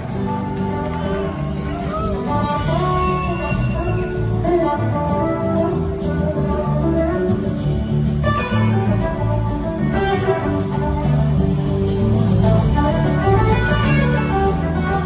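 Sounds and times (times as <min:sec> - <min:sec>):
bass guitar: 0:00.0 - 0:15.0
drums: 0:00.0 - 0:15.0
electric guitar lead: 0:00.0 - 0:15.0.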